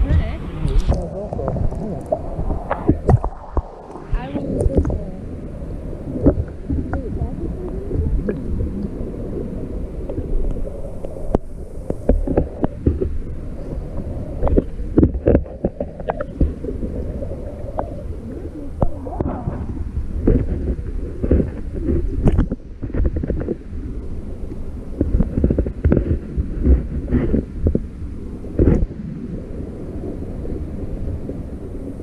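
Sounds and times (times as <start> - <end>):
muffled underwater rumble: 0.0 - 32.0.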